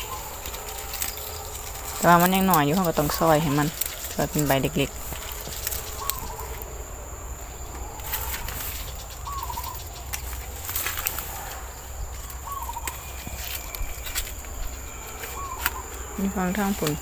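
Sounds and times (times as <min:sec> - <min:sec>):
bird call: 0:00.0 - 0:06.7, 0:07.4 - 0:17.0
vines rustling and crackling: 0:00.0 - 0:17.0.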